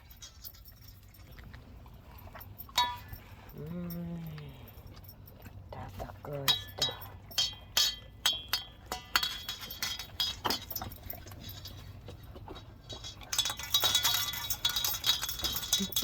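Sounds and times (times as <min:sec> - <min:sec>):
dogs eating from bowls: 0:00.0 - 0:16.0.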